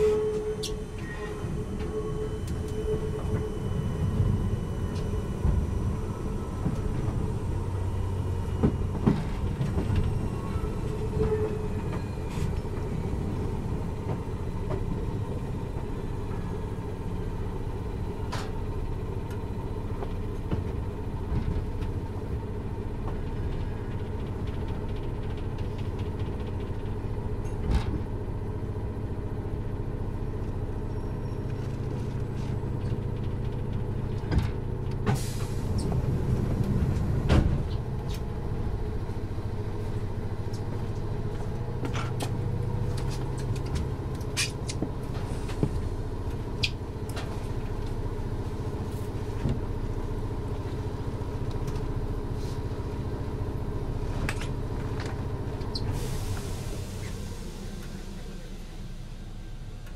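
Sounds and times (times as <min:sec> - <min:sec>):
train clunks: 0:00.0 - 0:28.4, 0:31.1 - 0:50.7.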